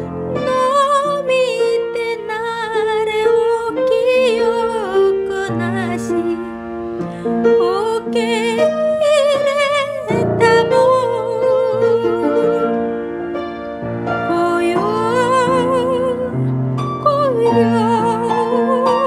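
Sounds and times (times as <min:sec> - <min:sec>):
sustained piano chords: 0:00.0 - 0:19.0.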